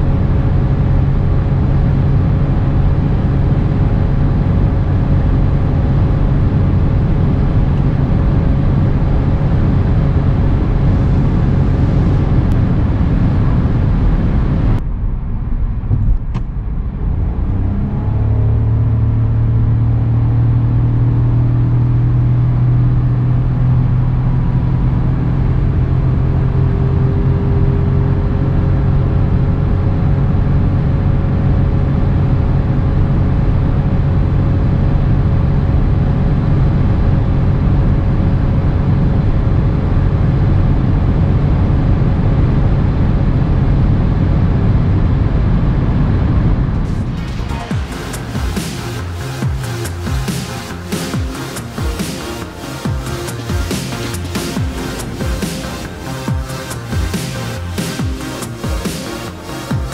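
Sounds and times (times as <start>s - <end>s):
car engine accelerating hard: 0.0s - 59.9s
road and wind noise: 0.0s - 59.9s.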